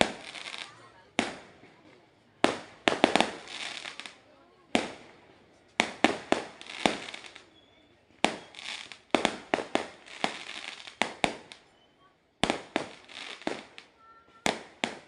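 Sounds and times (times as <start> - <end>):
fireworks bangs with crackling: 0.0 - 15.0.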